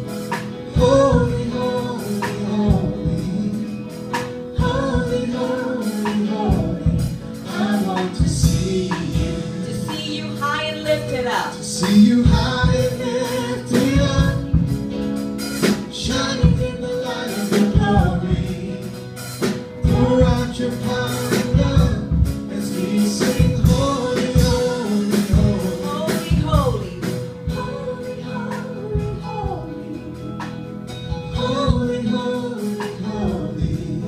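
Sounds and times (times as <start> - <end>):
drum kit steady beat: 0.0 - 34.0
electric guitar: 0.0 - 34.0
keyboard: 0.0 - 34.0
women and man singing together: 0.3 - 14.9, 15.6 - 34.0.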